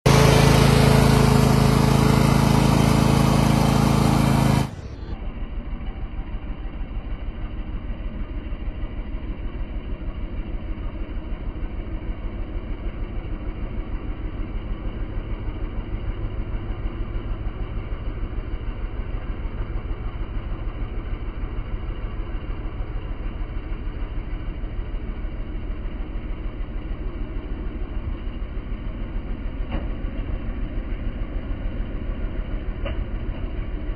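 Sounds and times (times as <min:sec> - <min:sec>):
riding lawn mower engine running: 0:00.0 - 0:33.9.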